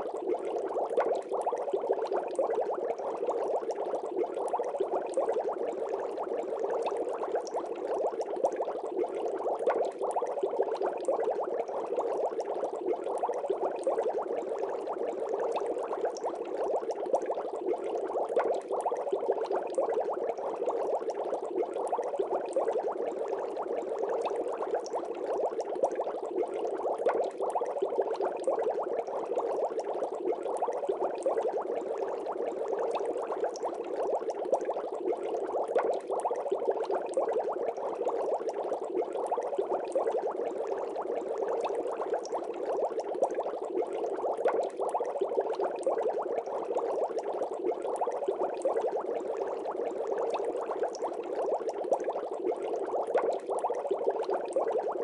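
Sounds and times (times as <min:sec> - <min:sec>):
aquarium water bubbling: 0:00.0 - 0:55.0.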